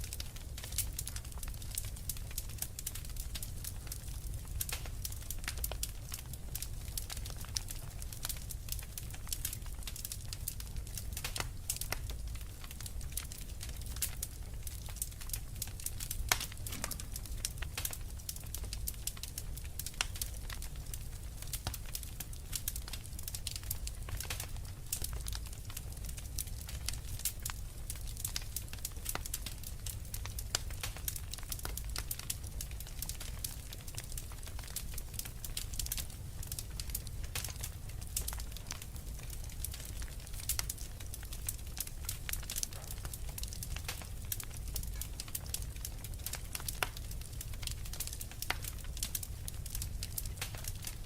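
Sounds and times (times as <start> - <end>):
fire crackling and popping: 0.0 - 51.0
low rumble of fire: 0.0 - 51.0.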